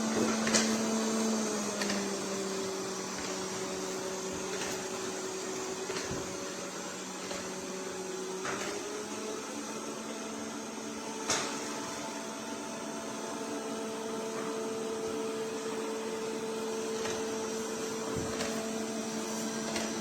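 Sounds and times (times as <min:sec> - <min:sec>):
robot vacuum motor hum: 0:00.0 - 0:20.0.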